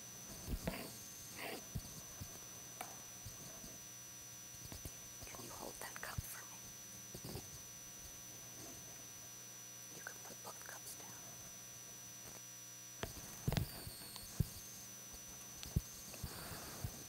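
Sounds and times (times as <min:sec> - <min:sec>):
high electrical whine and hum: 0:00.0 - 0:17.0.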